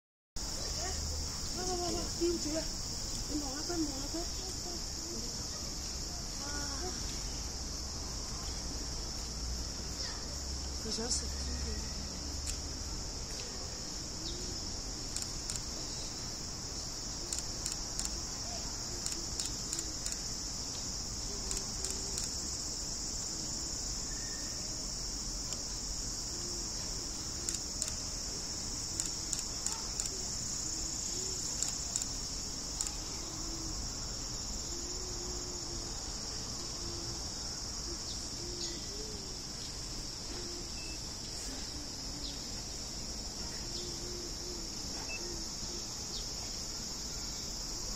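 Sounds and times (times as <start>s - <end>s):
cicadas buzzing: 0.4s - 47.9s.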